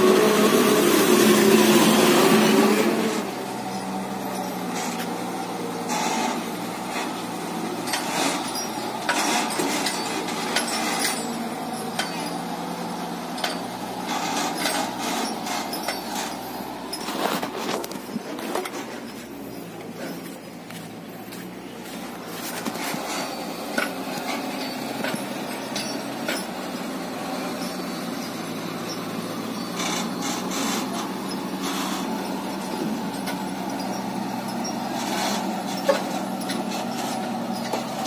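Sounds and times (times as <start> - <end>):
truck diesel engine driving past: 0.0 - 38.0.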